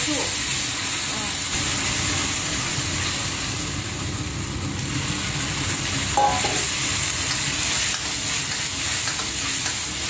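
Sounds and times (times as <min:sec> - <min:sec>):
oil sizzling in a wok: 0:00.0 - 0:10.0.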